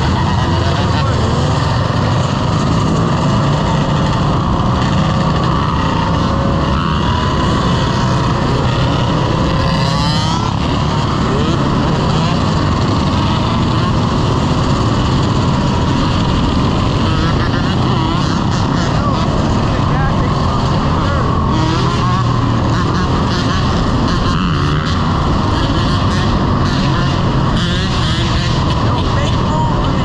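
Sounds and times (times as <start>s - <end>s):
dirt bike engines running: 0.0s - 30.0s.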